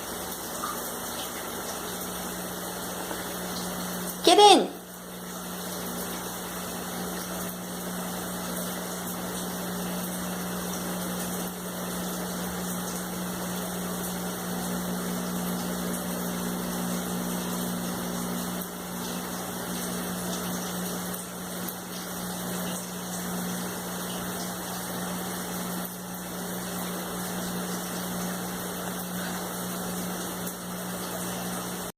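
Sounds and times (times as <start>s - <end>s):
shower spray running: 0.0s - 31.9s.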